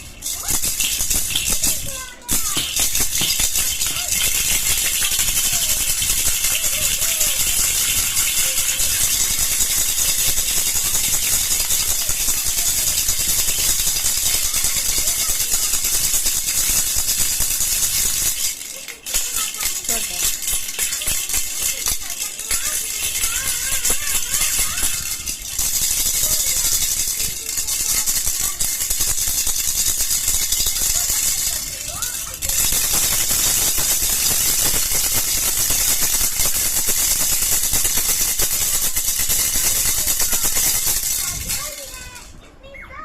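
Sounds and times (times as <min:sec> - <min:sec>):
baby rattle shaken: 0:00.0 - 0:42.7.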